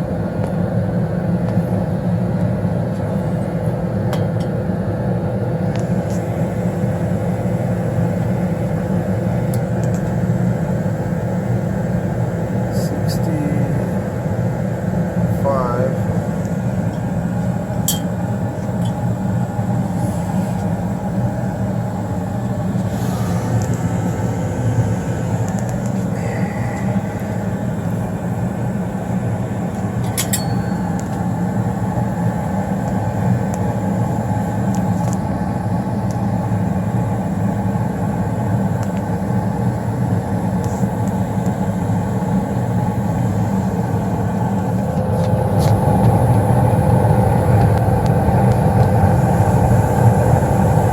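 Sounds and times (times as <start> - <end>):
gas furnace rumbling: 0.0 - 50.9.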